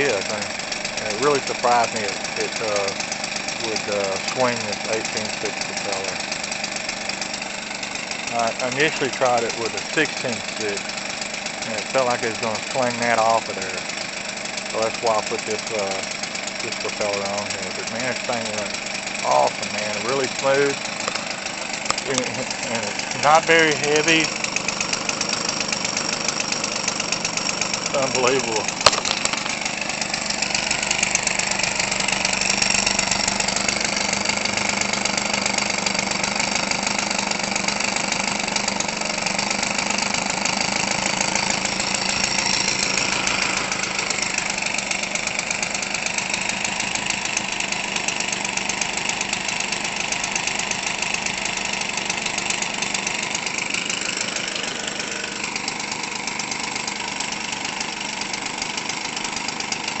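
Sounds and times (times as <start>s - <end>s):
two-stroke engine running: 0.0s - 60.0s.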